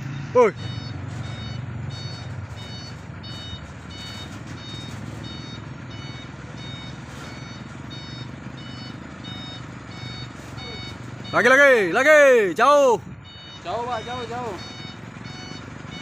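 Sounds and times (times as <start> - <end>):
diesel truck engine running: 0.0 - 16.0
truck reversing alarm beeping: 0.0 - 16.0.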